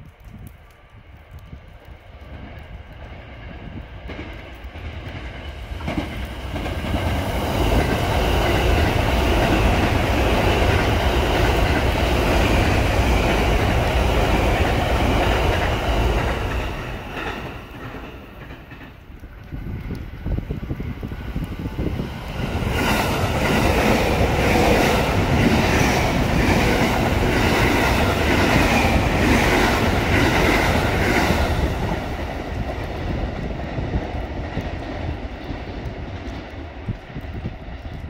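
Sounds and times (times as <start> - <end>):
electric train passing: 2.2 - 38.0.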